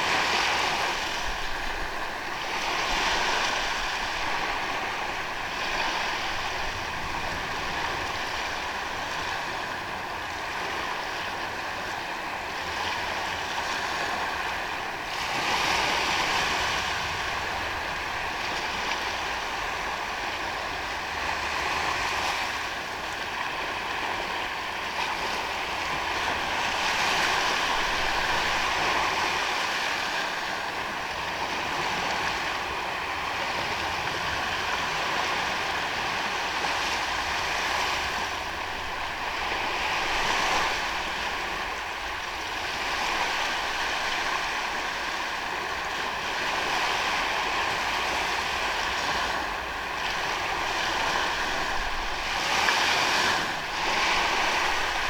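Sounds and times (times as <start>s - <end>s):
small waves washing onto sand: 0.0s - 55.0s.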